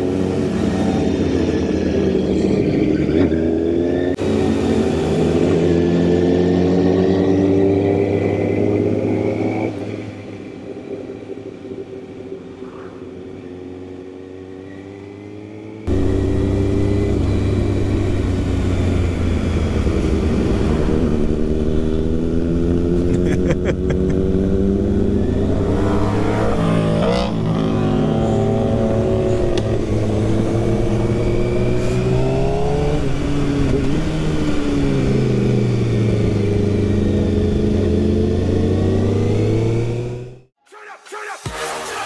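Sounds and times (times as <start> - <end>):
motorcycle engine revving: 0.0 - 40.5.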